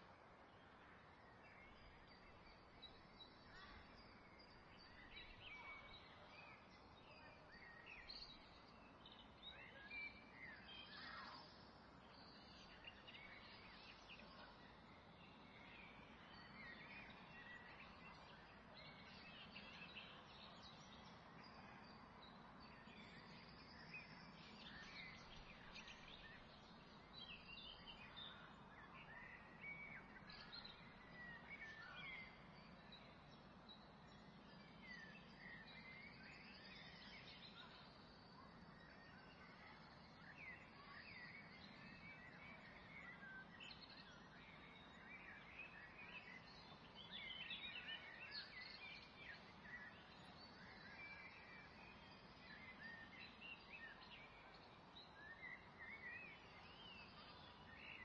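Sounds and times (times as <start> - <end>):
faint bird chirps: 0.0 - 58.0.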